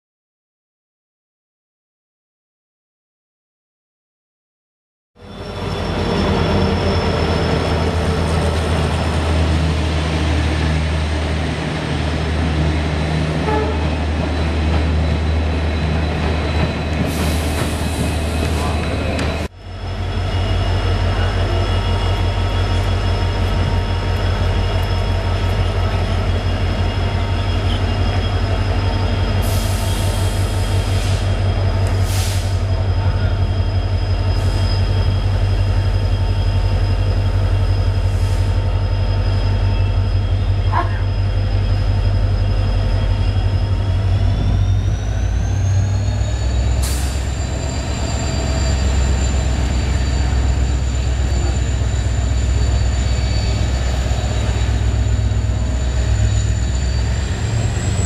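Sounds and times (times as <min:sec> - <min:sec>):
train rumble: 0:05.2 - 0:58.0.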